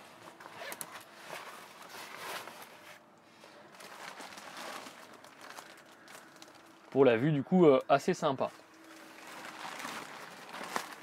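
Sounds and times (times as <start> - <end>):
canvas rustling and scraping: 0.0 - 7.1, 8.4 - 11.0.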